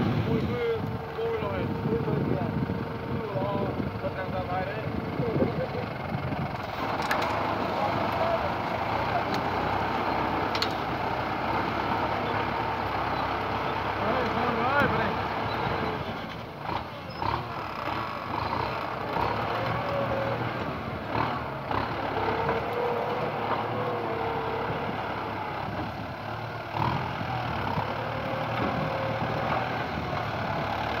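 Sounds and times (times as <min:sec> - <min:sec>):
diesel tractor running under load: 0:00.0 - 0:31.0.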